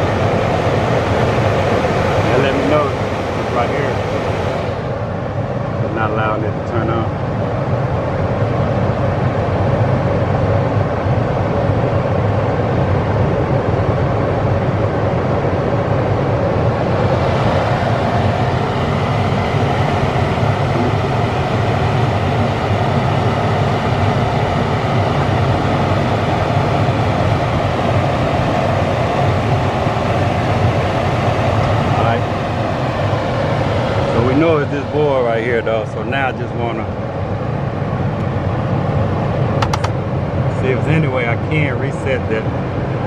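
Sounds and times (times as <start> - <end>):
furnace blower running: 0.0 - 43.0.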